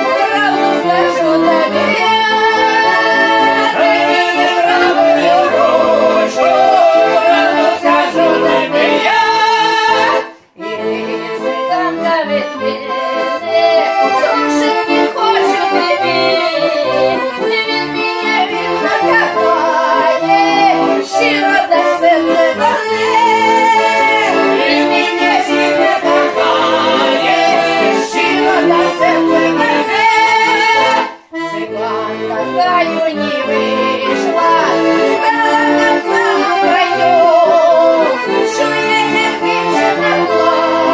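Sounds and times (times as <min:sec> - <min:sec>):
folk song on accordion: 0:00.0 - 0:40.9
person singing: 0:00.0 - 0:40.9.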